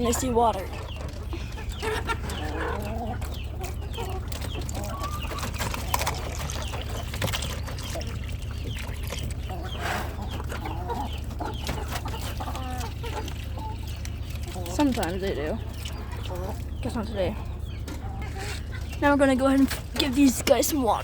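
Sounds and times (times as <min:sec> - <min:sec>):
poultry clucking and calling: 0:00.0 - 0:21.0.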